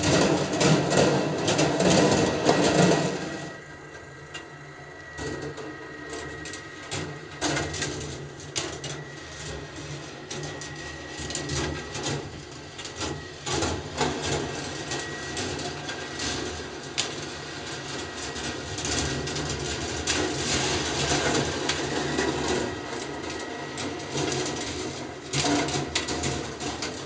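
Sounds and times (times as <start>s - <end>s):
machine lift humming: 0.0s - 27.0s.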